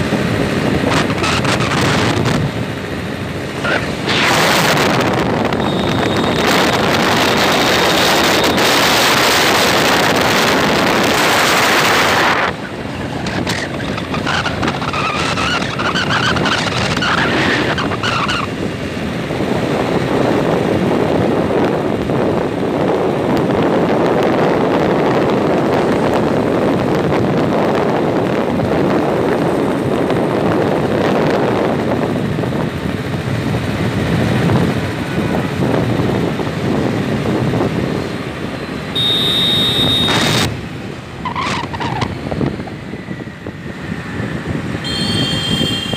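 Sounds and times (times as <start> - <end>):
wind buffeting microphone: 0.0 - 38.9, 39.7 - 45.9
vehicle road noise: 0.0 - 45.9.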